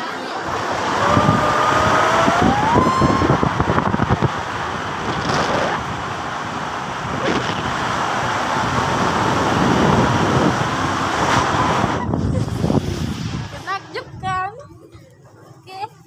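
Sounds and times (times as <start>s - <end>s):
inner tube sliding down slide: 0.2s - 14.0s
wind on microphone: 0.4s - 14.4s.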